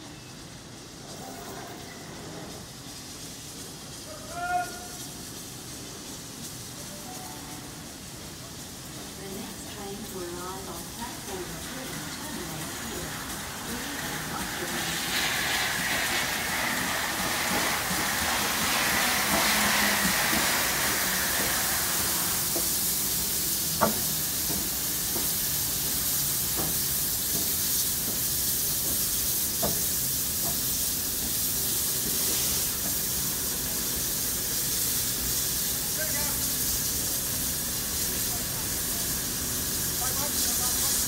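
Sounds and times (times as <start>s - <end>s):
steam hissing: 0.0s - 41.0s.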